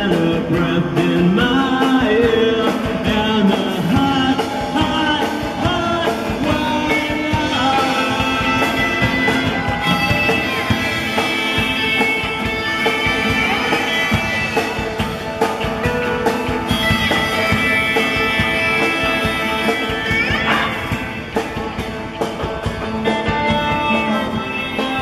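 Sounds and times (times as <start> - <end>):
drum beat: 0.0 - 25.0
guitar-led rock music: 0.0 - 25.0.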